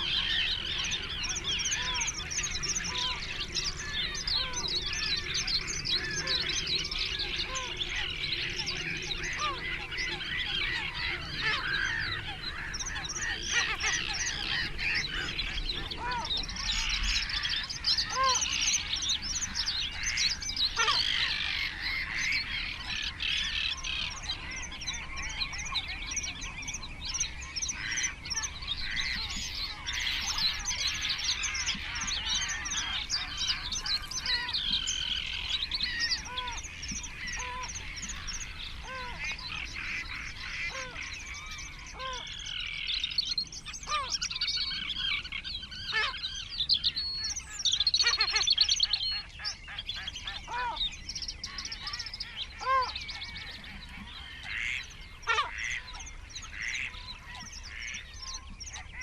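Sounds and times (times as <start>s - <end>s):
low-pitched bird calls: 0.0s - 59.0s
songbirds singing and chirping: 0.0s - 59.0s.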